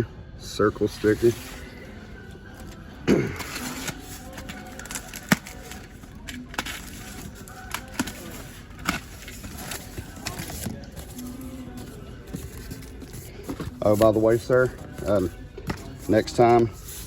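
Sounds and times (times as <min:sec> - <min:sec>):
store background: 0:00.0 - 0:17.0.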